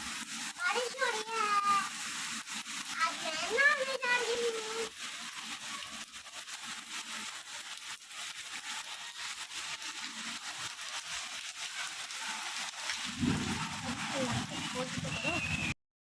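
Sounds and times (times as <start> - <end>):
rain falling: 0.0 - 15.8.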